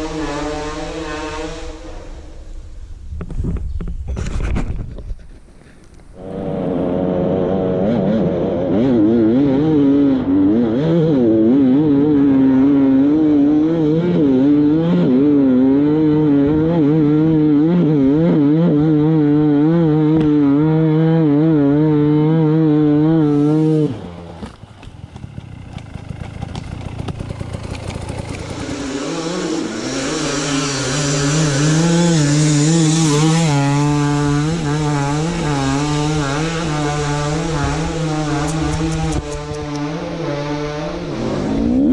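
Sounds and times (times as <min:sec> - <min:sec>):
dirt bike engine revving: 0:00.0 - 0:02.4, 0:06.2 - 0:41.9.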